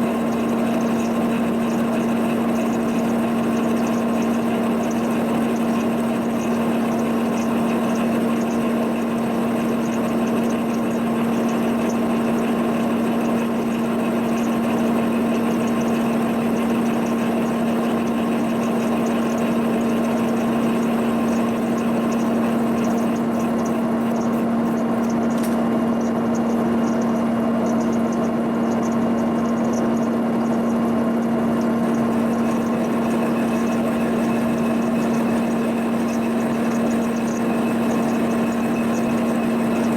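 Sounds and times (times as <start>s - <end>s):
boring machine cutting metal: 0.0s - 39.9s.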